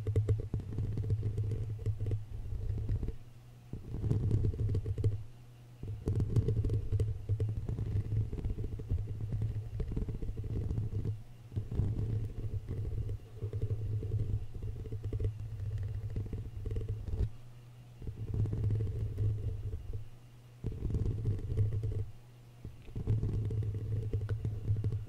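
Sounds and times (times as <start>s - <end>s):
fingertips scratching on microphone: 0.0s - 17.4s, 18.0s - 25.0s.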